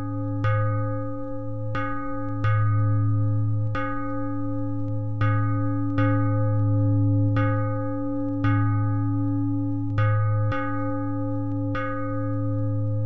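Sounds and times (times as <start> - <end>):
steady low tone: 0.0 - 13.0.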